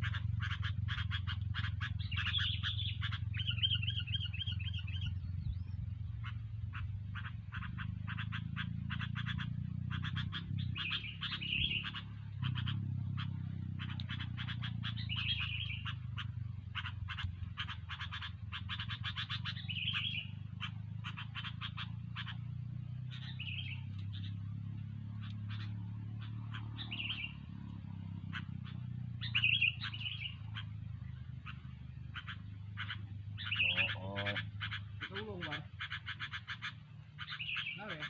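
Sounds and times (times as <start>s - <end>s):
birds chattering: 0.0s - 38.0s
low steady hum: 0.0s - 38.0s
short high bird calls: 0.0s - 38.0s.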